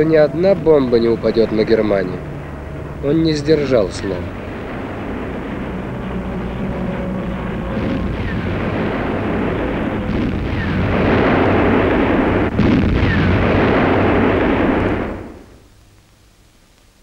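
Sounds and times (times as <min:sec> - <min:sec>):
rumble of explosions and fire: 0:00.0 - 0:17.0.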